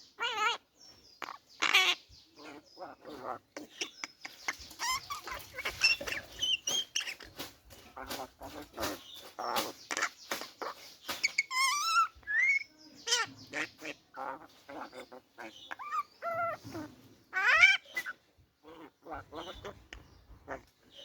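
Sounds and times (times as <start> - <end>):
myna calling: 0.0 - 21.0.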